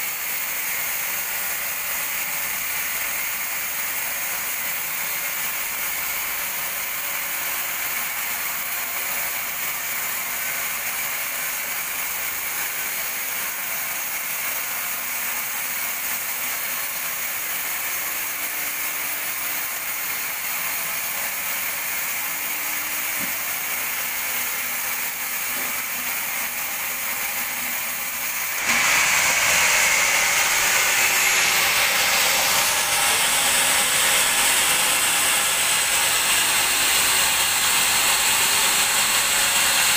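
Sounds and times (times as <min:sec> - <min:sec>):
bandsaw sawing a log: 0:00.0 - 0:39.9.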